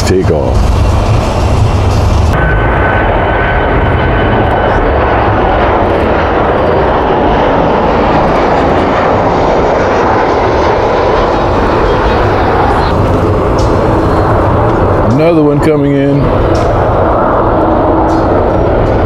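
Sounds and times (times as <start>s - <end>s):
airliner jet engine roar: 0.0s - 19.0s.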